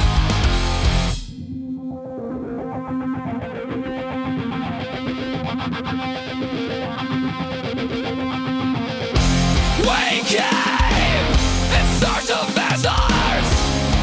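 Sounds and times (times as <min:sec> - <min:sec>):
rock guitar picking over held tone: 0:00.0 - 0:14.0.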